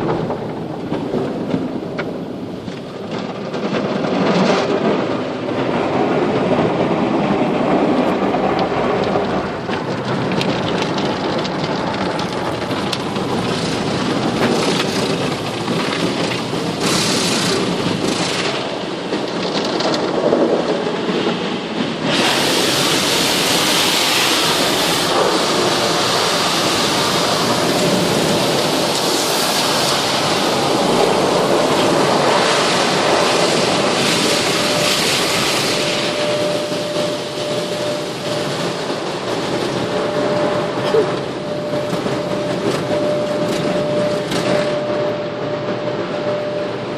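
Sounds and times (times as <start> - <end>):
water rushing on car: 0.0 - 46.9.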